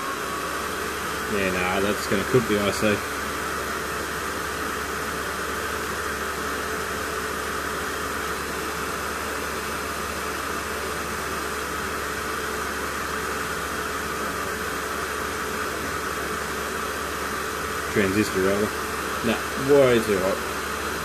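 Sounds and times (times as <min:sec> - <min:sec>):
cooling fan air rush: 0:00.0 - 0:21.0.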